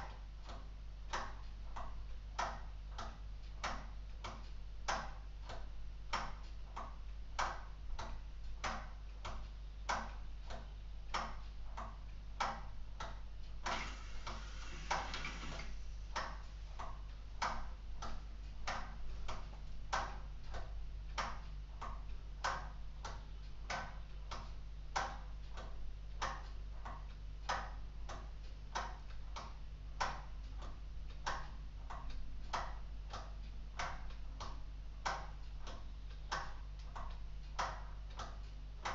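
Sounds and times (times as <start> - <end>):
clock escapement ticking: 0.0 - 38.9.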